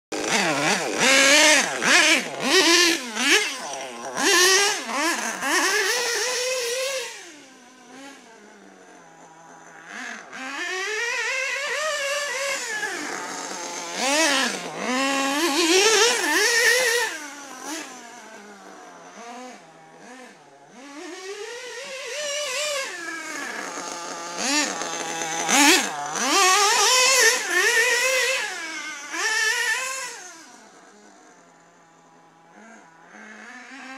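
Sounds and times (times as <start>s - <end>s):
rc car engine revving: 0.1s - 33.9s.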